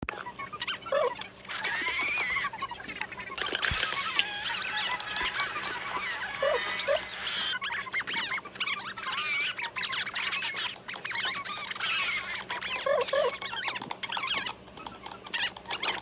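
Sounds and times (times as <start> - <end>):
high-pitched squeaks and chirps: 0.1 - 16.0.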